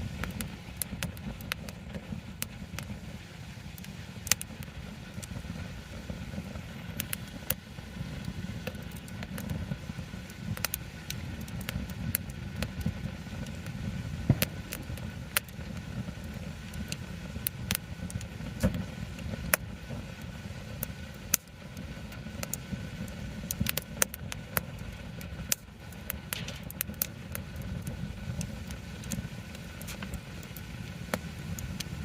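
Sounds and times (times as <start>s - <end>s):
burning wood popping: 0.0s - 32.0s
campfire crackling: 0.0s - 32.0s.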